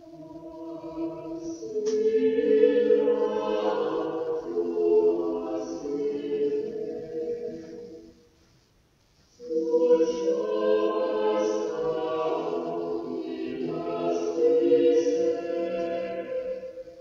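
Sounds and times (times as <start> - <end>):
choir singing sustained chords: 0.0 - 8.3, 9.3 - 17.0
music: 0.0 - 17.0.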